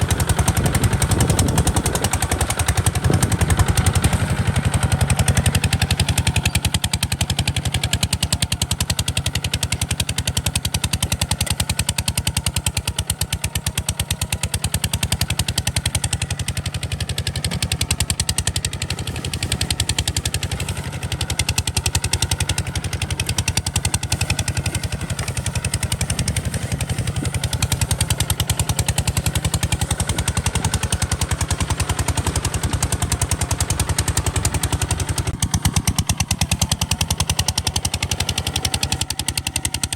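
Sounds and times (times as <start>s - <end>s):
diesel engine popping exhaust: 0.0s - 39.9s.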